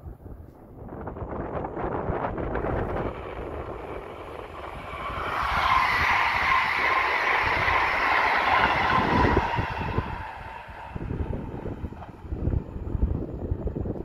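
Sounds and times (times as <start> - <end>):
wind on microphone: 0.0 - 14.0
electric train humming and ringing: 0.9 - 14.0.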